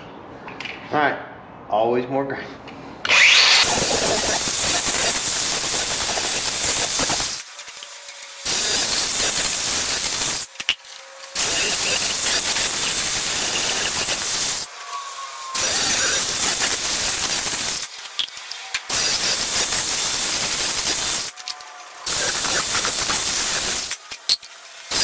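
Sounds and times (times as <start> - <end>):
angle grinder grinding steel: 3.1 - 25.0.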